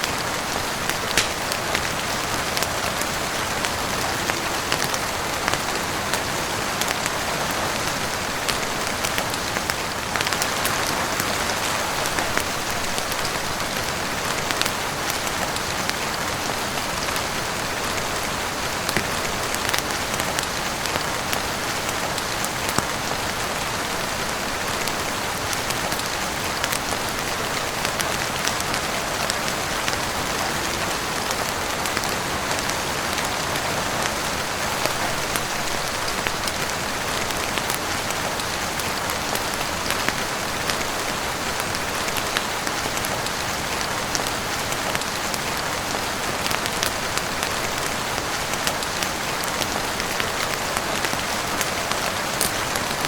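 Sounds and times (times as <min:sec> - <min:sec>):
heavy rain on a roof: 0:00.0 - 0:53.0.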